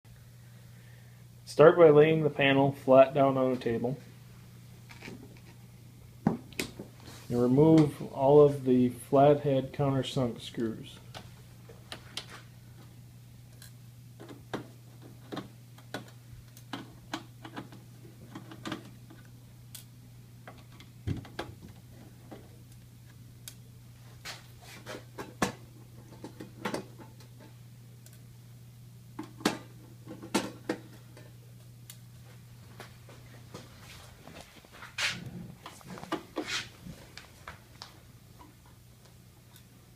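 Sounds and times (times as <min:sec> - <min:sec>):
low steady hum: 0:00.1 - 0:39.9.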